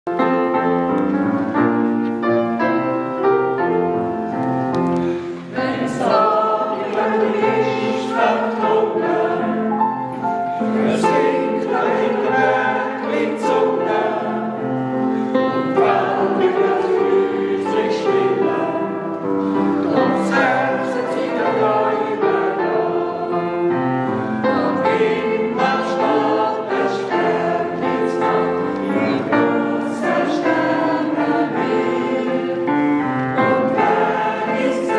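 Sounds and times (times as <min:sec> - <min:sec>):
piano: 0:00.0 - 0:34.9
choir singing: 0:05.3 - 0:34.9.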